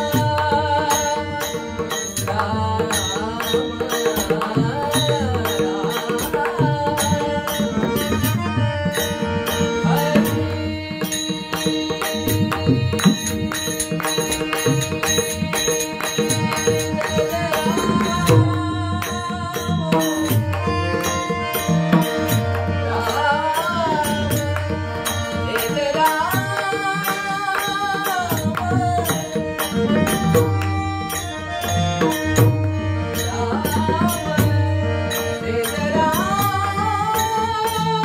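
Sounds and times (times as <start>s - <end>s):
drum beating steady rhythm: 0.0s - 38.0s.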